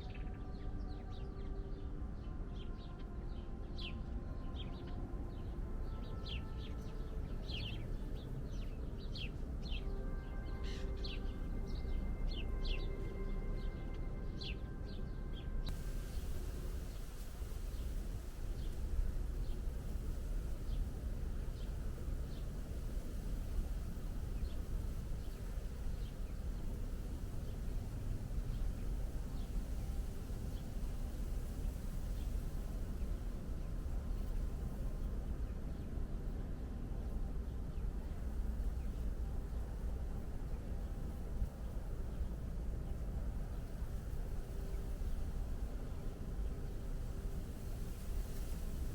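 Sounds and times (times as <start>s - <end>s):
birds chirping faintly: 0.0s - 48.9s
low background noise: 0.0s - 48.9s
steady low rumble: 0.0s - 48.9s.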